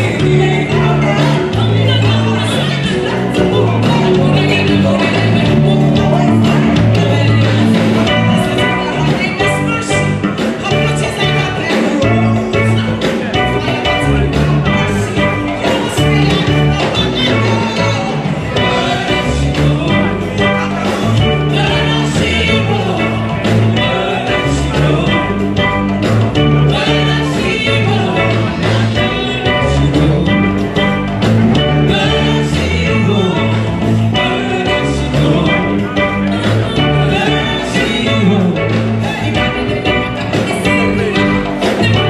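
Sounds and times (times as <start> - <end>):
vocals sung into microphones: 0.0 - 42.0.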